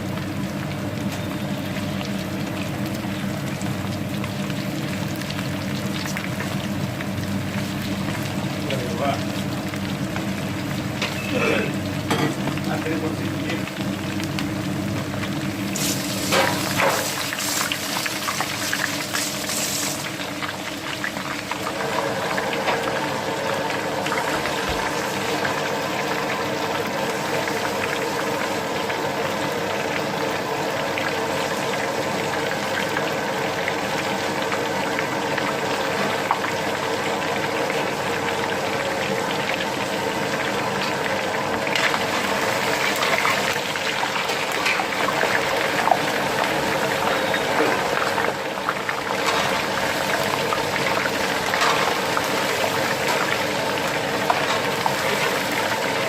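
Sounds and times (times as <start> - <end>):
chicken frying in hot oil: 0.0 - 56.0.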